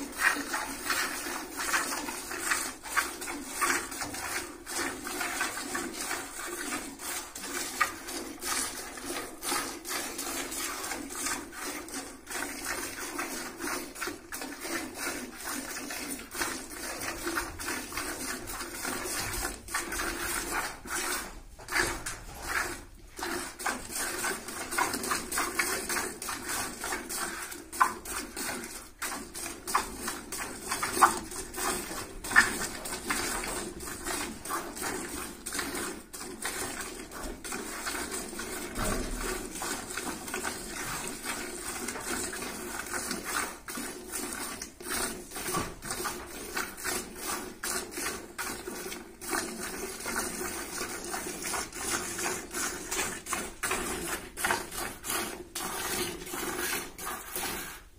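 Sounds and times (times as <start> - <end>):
milk squirting into bucket: 0.0 - 57.9.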